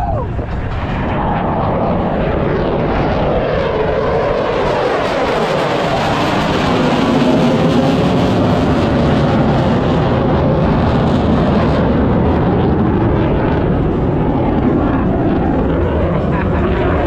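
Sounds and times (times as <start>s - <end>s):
aircraft flying over: 0.0s - 17.0s.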